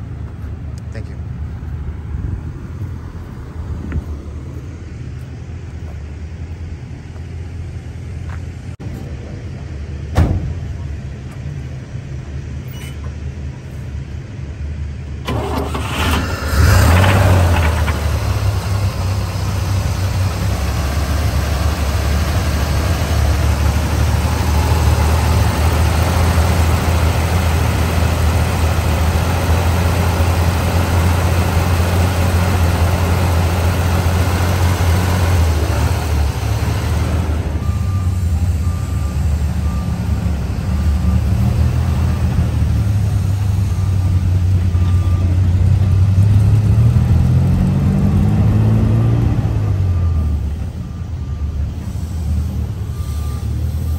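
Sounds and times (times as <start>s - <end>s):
truck engine starting and idling: 0.0s - 53.9s.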